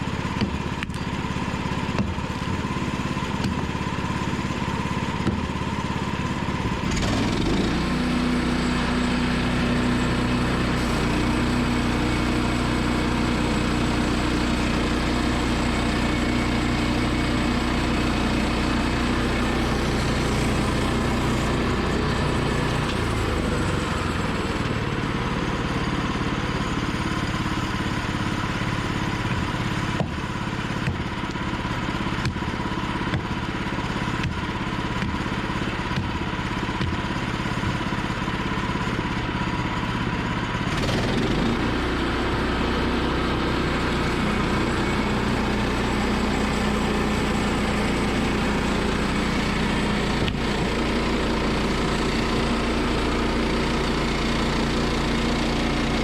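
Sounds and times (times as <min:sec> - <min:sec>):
sawmill gasoline engine running: 0:00.0 - 0:56.0.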